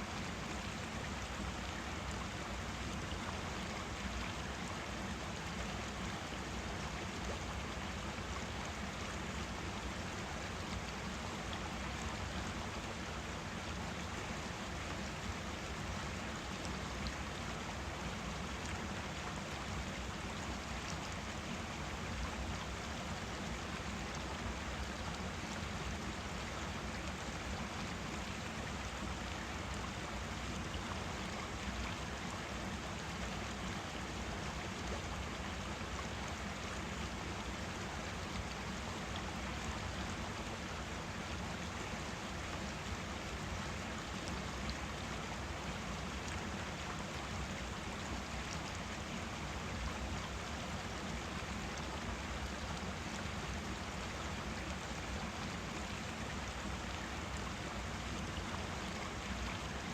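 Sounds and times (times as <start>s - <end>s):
stream flowing water: 0.0s - 59.9s.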